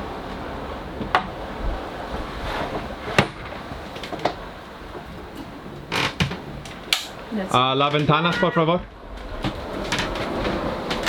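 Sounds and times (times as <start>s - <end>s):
sailboat rushing noise: 0.0s - 11.0s.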